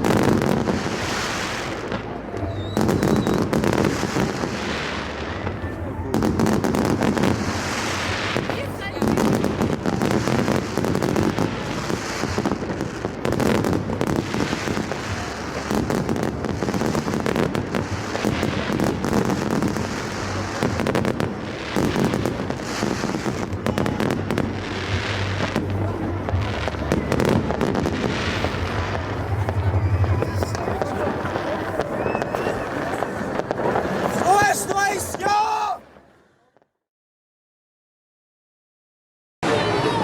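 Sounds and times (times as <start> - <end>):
fireworks bangs and crackling: 0.0 - 36.2, 39.4 - 40.0.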